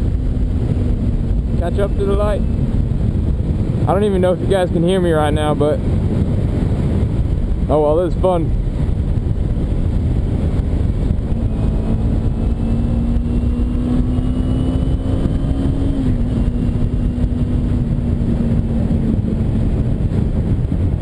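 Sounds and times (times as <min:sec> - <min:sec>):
motorcycle engine running: 0:00.0 - 0:07.8, 0:08.5 - 0:21.0
wind rush: 0:00.0 - 0:21.0.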